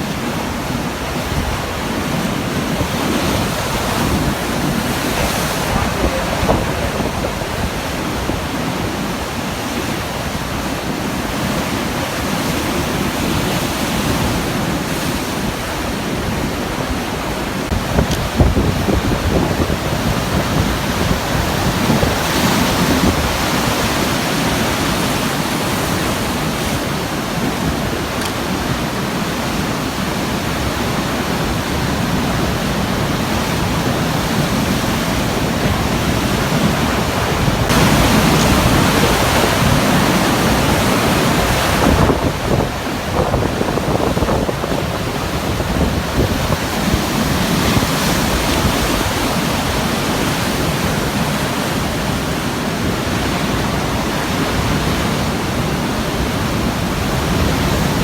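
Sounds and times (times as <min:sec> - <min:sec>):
surf breaking on rocky shore: 0:00.0 - 0:58.0.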